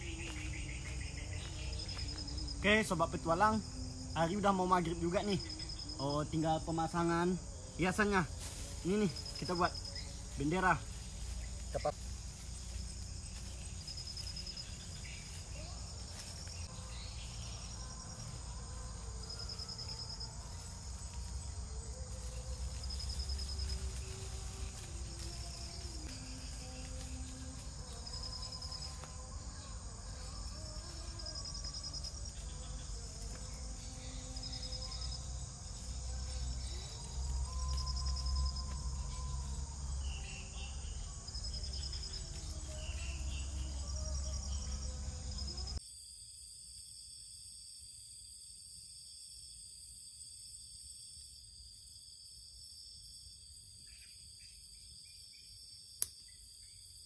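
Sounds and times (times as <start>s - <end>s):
buzzy insect trill: 0.0s - 46.1s
insects droning: 0.0s - 57.0s.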